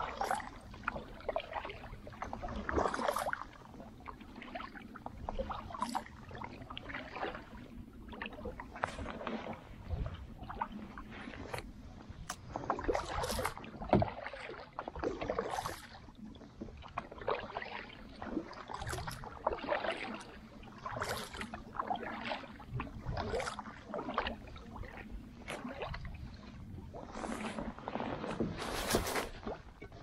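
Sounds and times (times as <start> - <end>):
paddle strokes splashing in water: 0.0 - 30.0.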